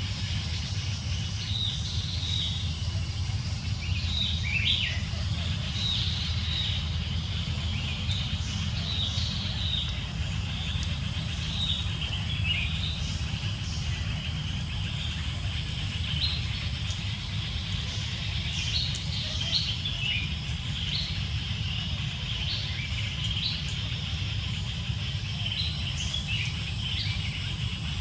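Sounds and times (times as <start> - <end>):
birds chirping: 0.0 - 28.0
steady high hiss: 0.0 - 28.0
steady low rumble: 0.0 - 28.0.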